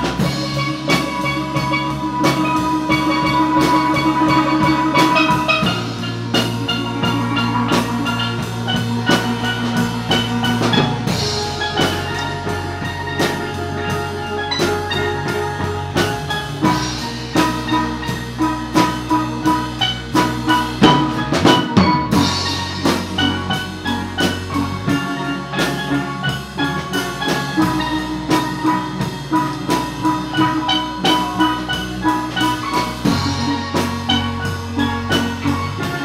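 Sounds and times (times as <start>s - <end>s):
drum kit beats: 0.0s - 36.0s
low bass notes: 0.0s - 36.0s
steel pans playing melody: 0.0s - 36.0s.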